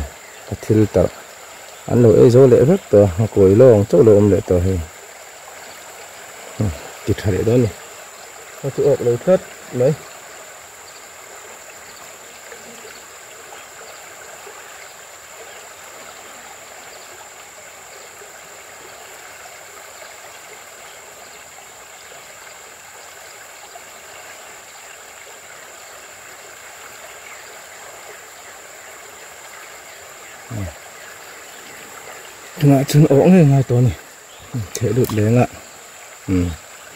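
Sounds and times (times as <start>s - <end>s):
river water flowing: 0.0s - 36.9s.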